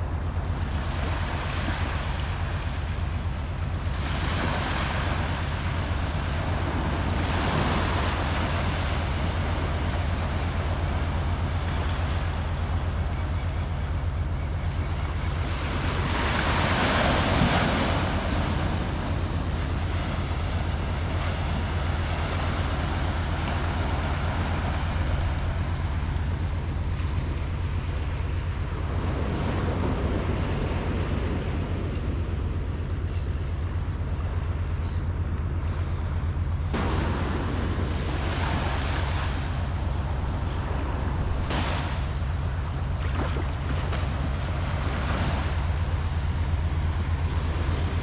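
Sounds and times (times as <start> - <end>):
small waves washing on sand: 0.0 - 12.9, 15.4 - 32.8, 36.7 - 48.0
wind rumble on microphone: 0.0 - 48.0.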